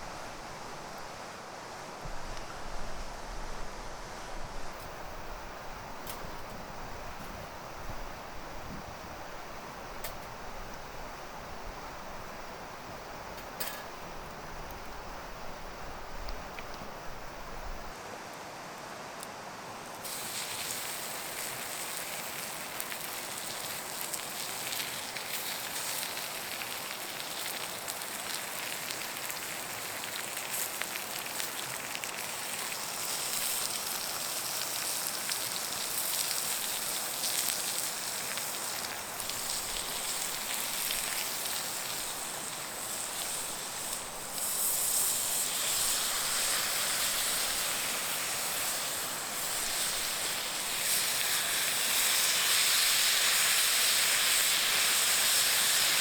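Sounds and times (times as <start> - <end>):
steady hiss: 0.0 - 56.0
wood fire crackling and hissing: 0.0 - 56.0.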